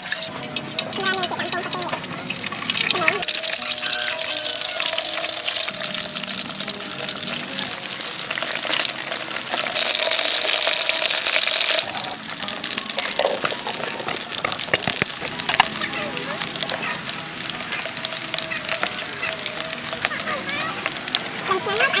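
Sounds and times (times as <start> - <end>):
food deep-frying in hot oil: 0.0 - 22.0
metal utensils in a wok: 0.0 - 22.0.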